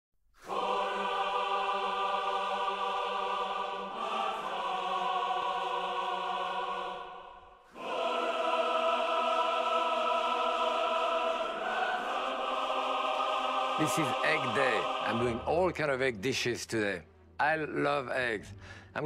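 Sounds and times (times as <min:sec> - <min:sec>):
choir singing sustained chords: 0:00.4 - 0:19.0.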